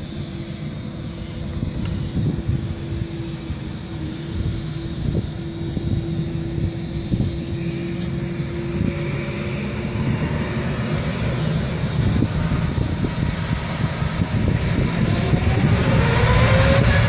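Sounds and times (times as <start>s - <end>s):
high engine whine: 0.0s - 17.0s
jet engines rumbling: 0.0s - 17.0s.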